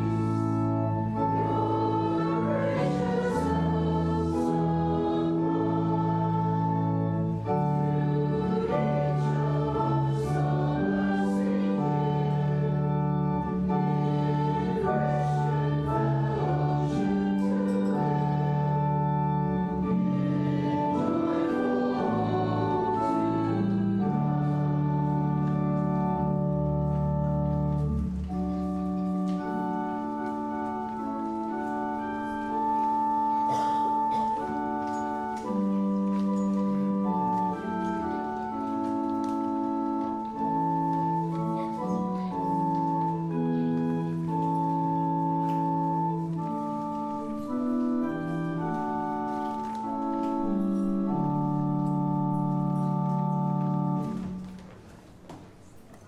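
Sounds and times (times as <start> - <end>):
church organ chords: 0.0 - 55.8.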